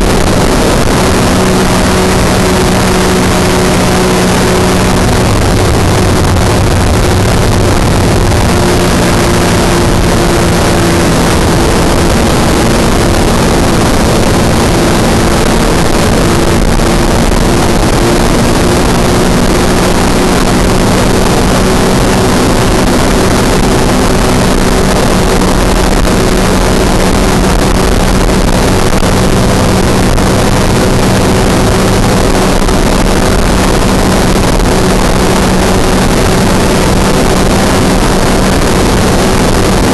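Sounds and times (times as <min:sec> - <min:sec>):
aircraft engine droning: 0:00.0 - 0:39.9
wind rushing over microphone: 0:00.0 - 0:39.9.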